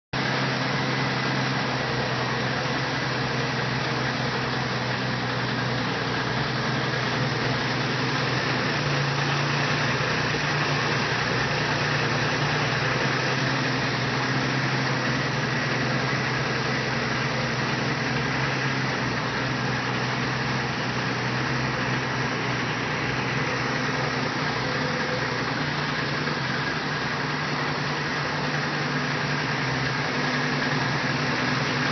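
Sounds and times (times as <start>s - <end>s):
car engine idling: 0.2s - 31.9s.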